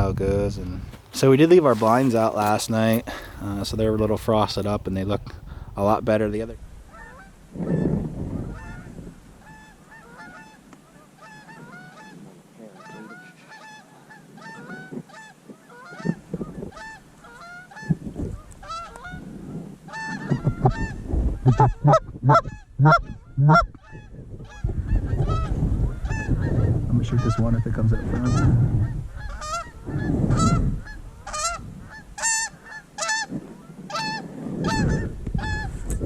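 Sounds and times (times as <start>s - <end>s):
geese honking: 1.1s - 5.2s, 6.9s - 35.8s.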